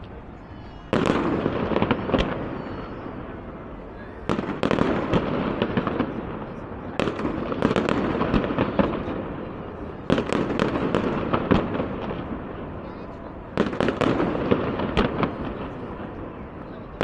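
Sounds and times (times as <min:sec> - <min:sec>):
fireworks bangs and crackling: 0:00.8 - 0:17.0.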